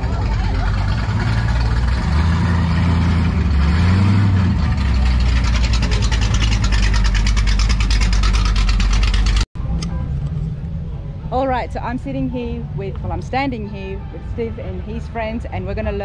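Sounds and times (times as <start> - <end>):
exhaust pulsing: 0.0 - 13.6.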